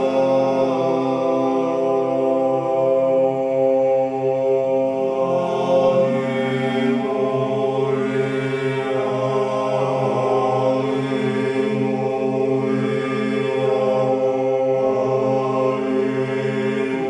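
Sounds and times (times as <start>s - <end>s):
slow vocal chant: 0.0s - 17.0s
steady low drone: 0.0s - 17.0s.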